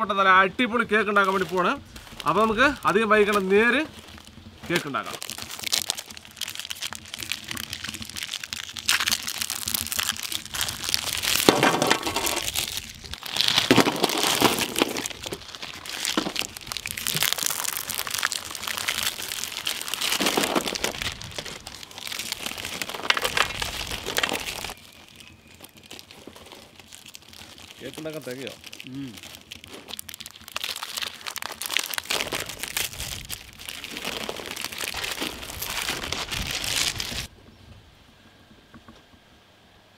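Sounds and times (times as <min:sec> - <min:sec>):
plastic wrappers crinkling: 0:00.8 - 0:37.3.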